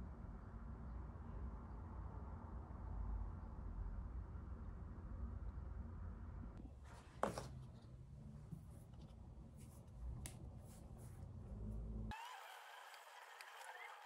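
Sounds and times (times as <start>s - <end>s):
low room rumble: 0.0s - 12.1s.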